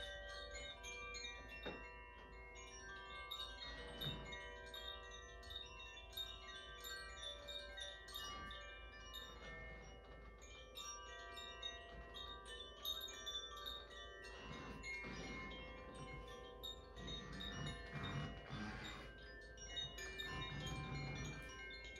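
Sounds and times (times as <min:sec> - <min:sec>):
wind chimes ringing: 0:00.0 - 0:21.9.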